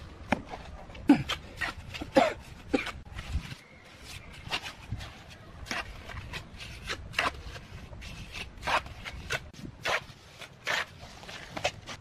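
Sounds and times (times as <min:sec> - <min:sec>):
trowel scraping mortar: 0:01.2 - 0:12.0.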